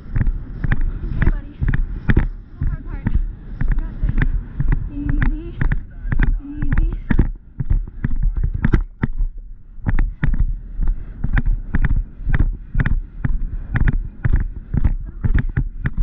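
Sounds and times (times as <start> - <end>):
wind rumble on microphone: 0.0 - 16.0
hoofbeats on turf: 0.2 - 16.0.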